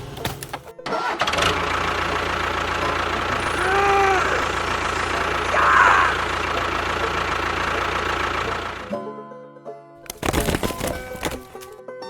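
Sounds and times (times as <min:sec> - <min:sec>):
engine-like running sound: 0:00.0 - 0:09.1, 0:10.1 - 0:11.8.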